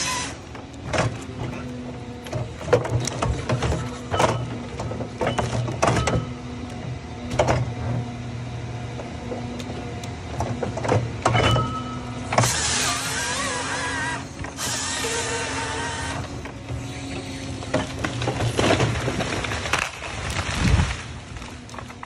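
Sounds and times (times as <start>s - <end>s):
machine motor humming: 0.0s - 18.4s.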